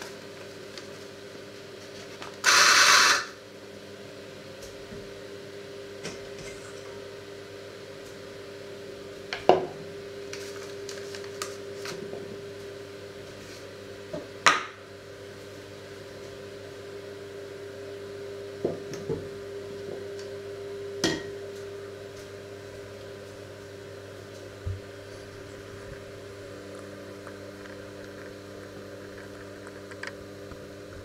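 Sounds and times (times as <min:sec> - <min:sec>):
steady low hum: 0:02.8 - 0:31.0.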